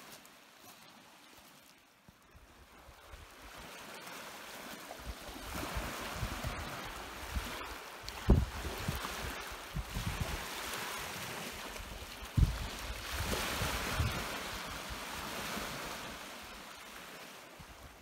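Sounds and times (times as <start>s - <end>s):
lake water on stony shore: 0.0s - 18.0s
wind: 0.0s - 18.0s.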